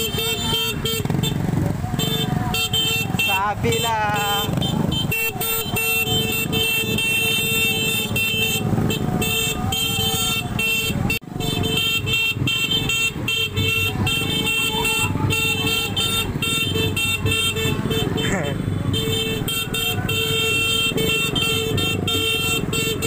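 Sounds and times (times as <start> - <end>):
horns tooting: 0.0 - 23.0
vehicle and motorcycle engines: 0.0 - 23.0.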